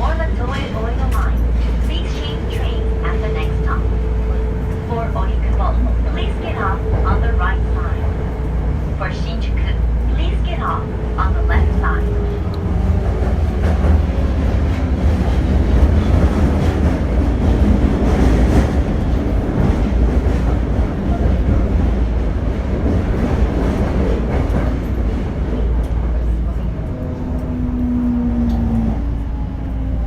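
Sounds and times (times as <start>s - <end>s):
subway train wheels rumbling on rail: 0.0s - 30.0s.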